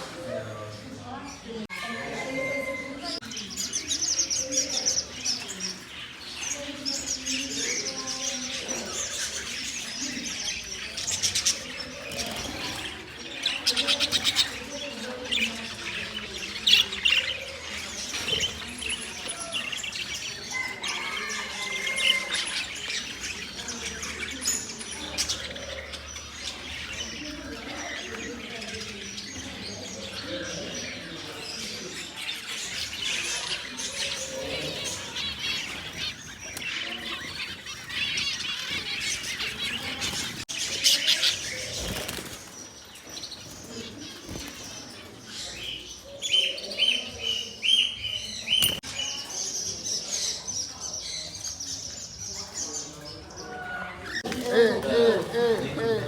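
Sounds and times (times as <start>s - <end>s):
parrots chirping and calling: 0.6s - 56.0s.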